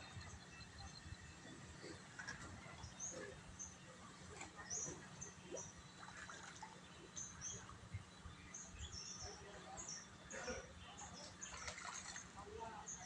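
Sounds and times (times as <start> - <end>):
low steady hum: 0.0 - 13.0
small birds chirping: 0.0 - 13.0.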